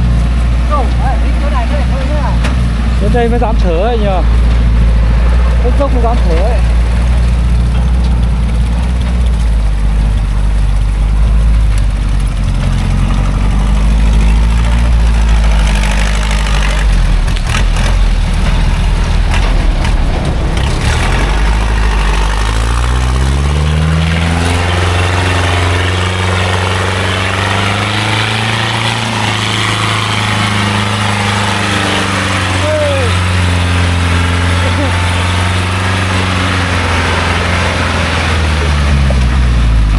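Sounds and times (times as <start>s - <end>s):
rattles and knocks: 0.0s - 34.3s
truck engine revving: 0.0s - 39.9s.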